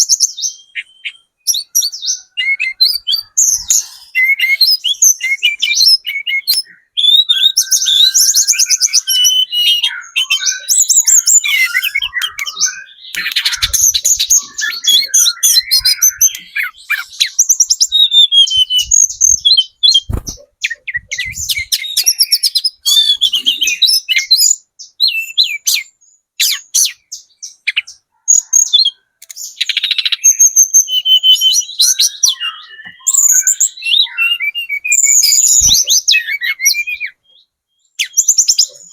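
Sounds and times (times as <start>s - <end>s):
flowerpecker chirps and trills: 0.0s - 38.9s.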